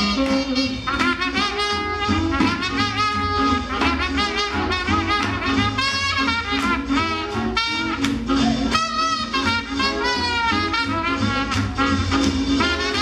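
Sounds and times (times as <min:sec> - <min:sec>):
swing jazz with brass horns: 0:00.0 - 0:13.0.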